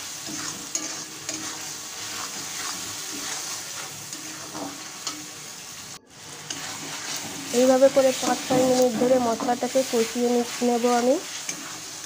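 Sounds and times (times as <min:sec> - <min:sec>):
paste sizzling in hot oil: 0:00.0 - 0:12.0
spatula scraping pan: 0:00.0 - 0:12.0.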